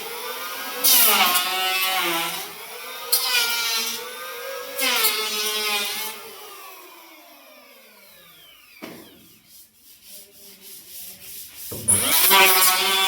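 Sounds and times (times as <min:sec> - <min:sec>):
electric planer cutting wood: 0:00.0 - 0:09.4, 0:11.7 - 0:13.0.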